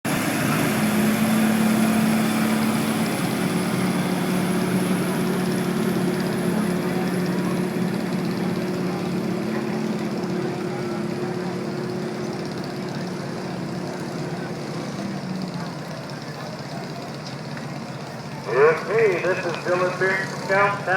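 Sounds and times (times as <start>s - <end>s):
garden tractor engine running: 0.1s - 20.9s.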